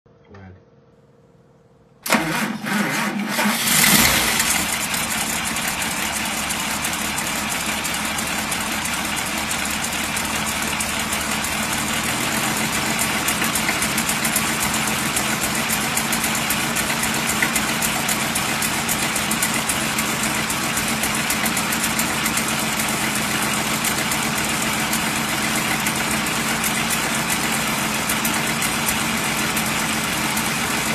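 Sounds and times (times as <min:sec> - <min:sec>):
car engine idling: 0:03.4 - 0:30.9.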